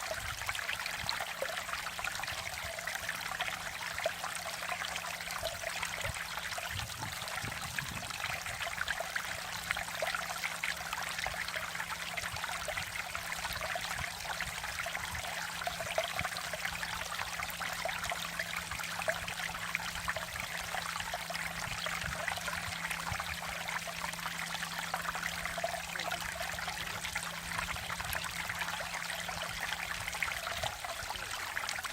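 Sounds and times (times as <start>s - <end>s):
stream flowing: 0.0s - 31.9s.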